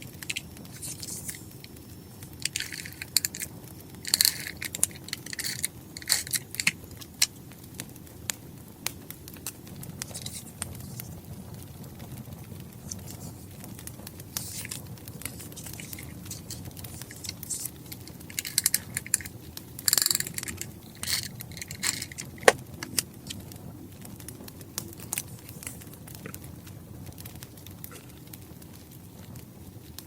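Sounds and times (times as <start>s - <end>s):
wood fire crackling: 0.0s - 22.6s, 23.9s - 30.0s.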